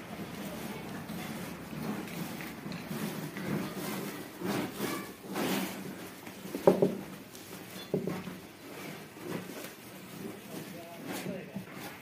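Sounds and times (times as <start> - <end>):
rolling pin crunching puffed rice: 0.0 - 12.0.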